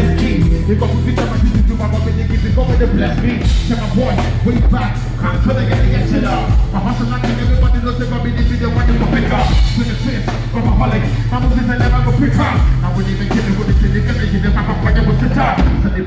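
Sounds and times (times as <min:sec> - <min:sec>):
drum kit beat: 0:00.0 - 0:16.0
heavy bass line: 0:00.0 - 0:16.0
live band playing: 0:00.0 - 0:16.0.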